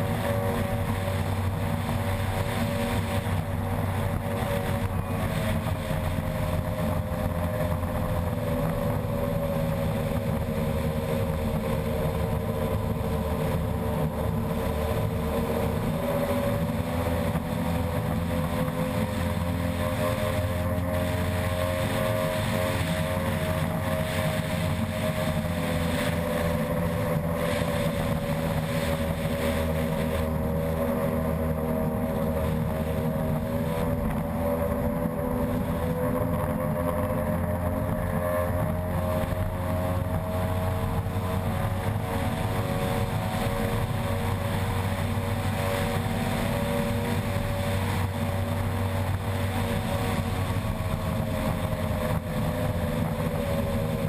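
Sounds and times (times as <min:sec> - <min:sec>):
outboard engine at high revs: 0:00.0 - 0:54.0
rushing wind and water: 0:00.0 - 0:54.0.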